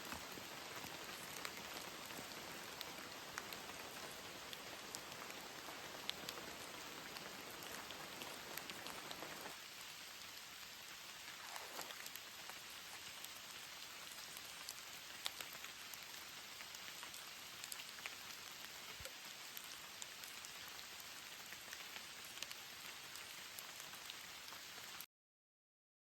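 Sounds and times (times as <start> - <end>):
steady rain: 0.0 - 25.1.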